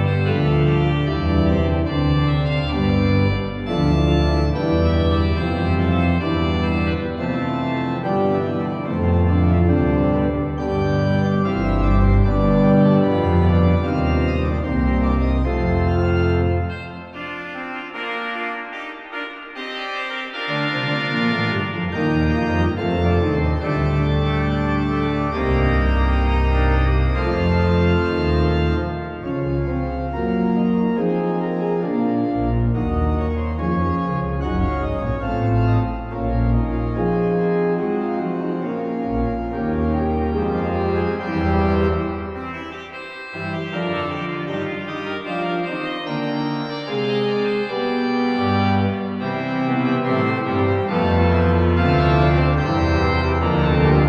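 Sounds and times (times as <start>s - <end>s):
deep organ pedal bass: 0.0s - 54.0s
pipe organ chords: 0.0s - 54.0s.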